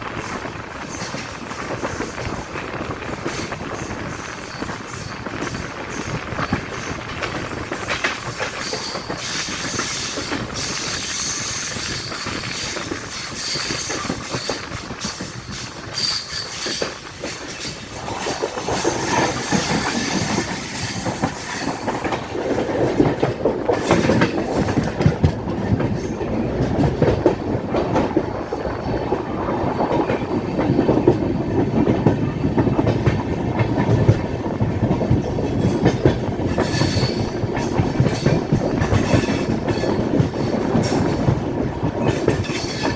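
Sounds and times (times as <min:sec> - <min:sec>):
train wheels clattering over rail joints: 0:00.0 - 0:42.9.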